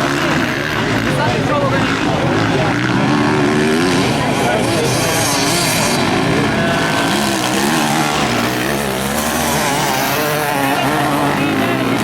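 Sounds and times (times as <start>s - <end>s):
motocross motorcycle engines revving: 0.0s - 12.0s.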